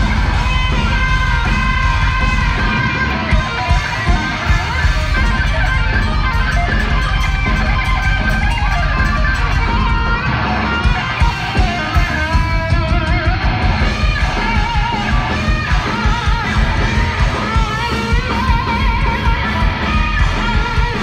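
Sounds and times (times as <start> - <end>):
distorted electric guitars: 0.0 - 21.0
drums: 0.0 - 21.0.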